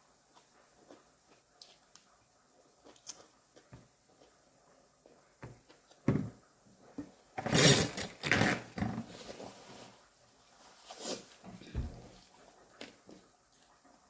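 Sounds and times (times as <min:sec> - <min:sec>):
rustling and handling noise: 0:00.0 - 0:13.9.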